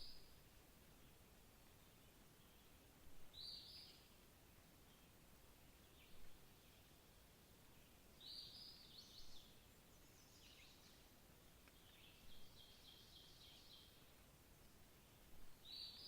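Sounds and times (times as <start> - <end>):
background hiss: 0.0 - 16.0
songbird chirps: 0.0 - 16.0.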